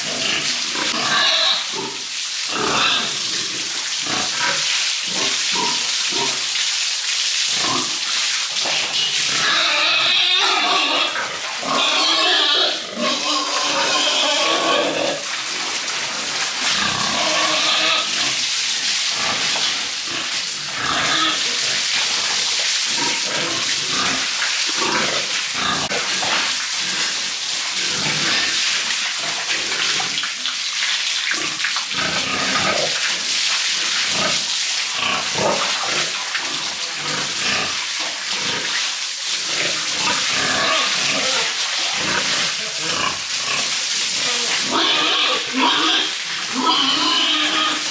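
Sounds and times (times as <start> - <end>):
pigs grunting and squealing: 0.0 - 6.5, 7.6 - 8.0, 8.6 - 28.6, 31.3 - 38.8, 39.4 - 47.9
water spraying: 0.0 - 47.9.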